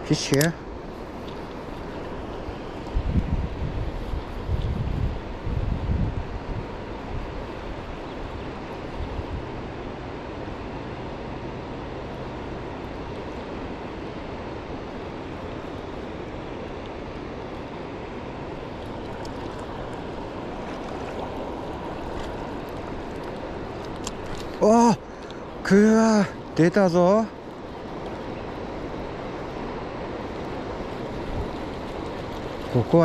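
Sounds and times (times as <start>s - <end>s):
river rushing: 0.0s - 5.6s, 6.2s - 33.0s.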